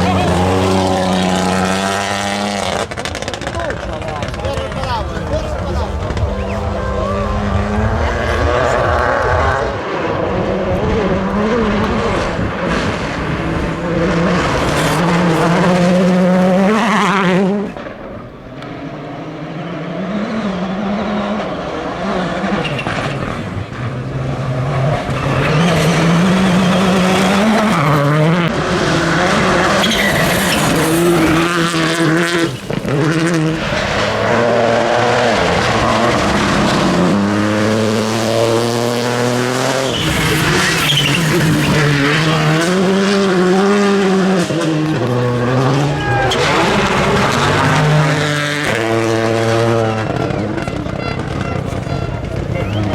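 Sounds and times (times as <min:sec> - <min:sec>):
rally car engines passing: 0:00.0 - 0:52.9.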